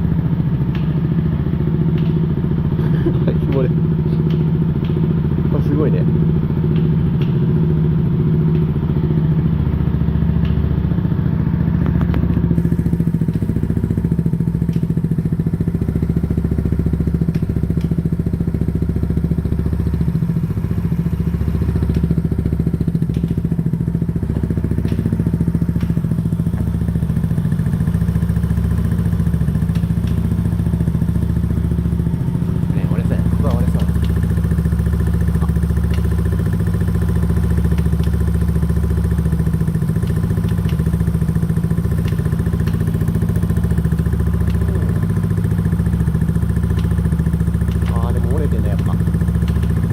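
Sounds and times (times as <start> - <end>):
scooter engine running: 0.0 - 49.9
irregular ticking and knocking: 0.6 - 49.9.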